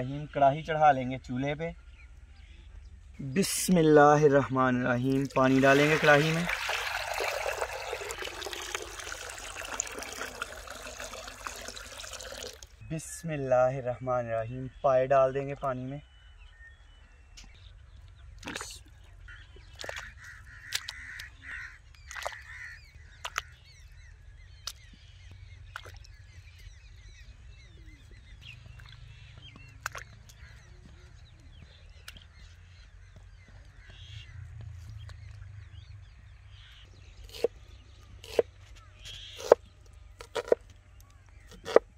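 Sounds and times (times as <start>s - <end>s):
birds calling: 0.0s - 41.9s.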